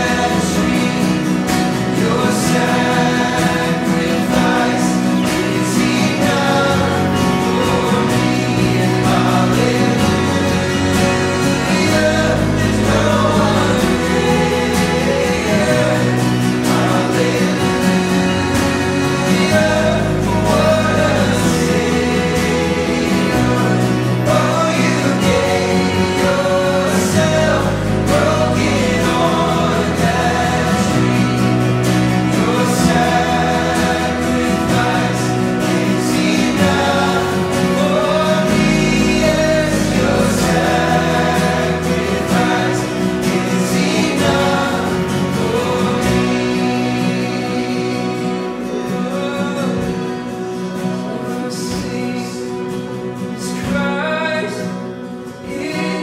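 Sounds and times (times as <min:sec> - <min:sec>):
deep bass line: 0:00.0 - 0:48.7
acoustic and electric guitars: 0:00.0 - 0:56.0
voices singing together: 0:00.0 - 0:56.0.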